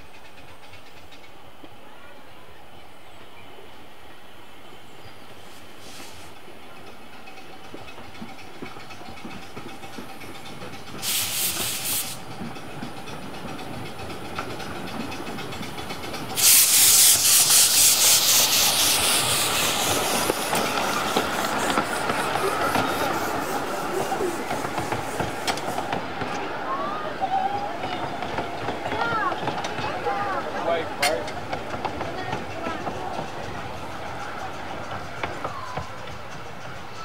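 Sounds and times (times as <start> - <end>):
miniature steam locomotive: 0.0 - 37.0
train running on rails: 0.0 - 37.0
steam hissing: 5.3 - 6.7, 7.3 - 37.0.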